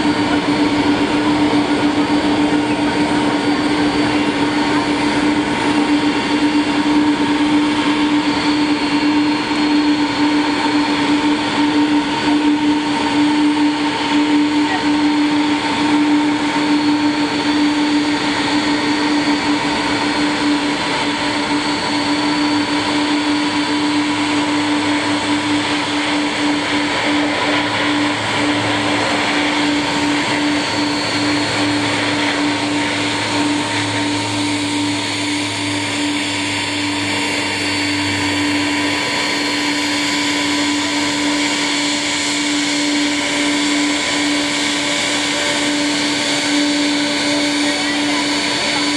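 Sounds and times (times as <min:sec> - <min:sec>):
low propeller hum: 0:00.0 - 0:48.9
turboprop engines drone: 0:00.0 - 0:48.9.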